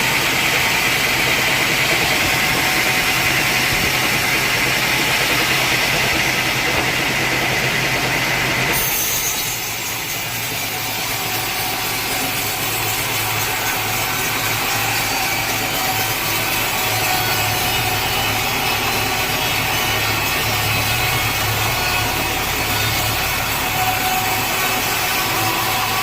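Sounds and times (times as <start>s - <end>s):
saw cutting through log: 0.0s - 26.0s.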